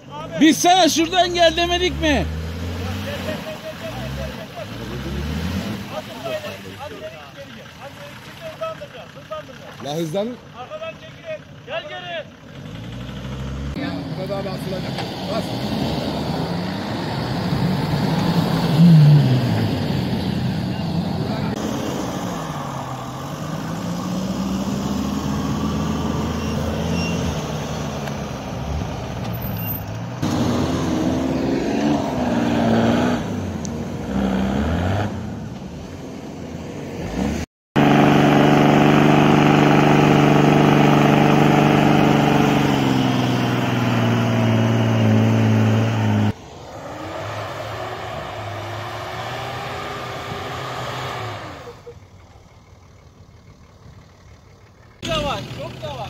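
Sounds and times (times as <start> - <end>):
truck engines straining: 0.0 - 56.0.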